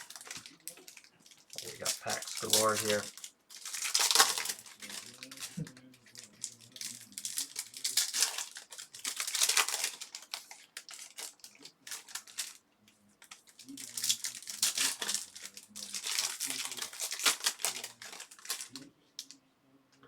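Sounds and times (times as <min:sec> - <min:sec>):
foil wrappers tearing and crinkling: 0:00.0 - 0:12.6, 0:13.2 - 0:19.3.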